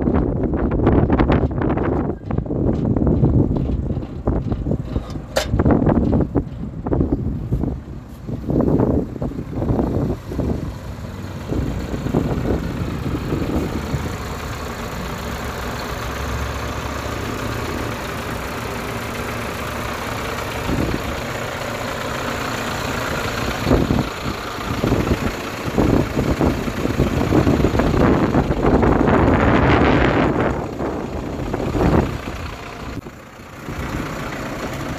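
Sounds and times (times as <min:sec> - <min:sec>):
diesel truck engine idling: 0:00.0 - 0:34.9
wind buffeting microphone: 0:00.0 - 0:34.9.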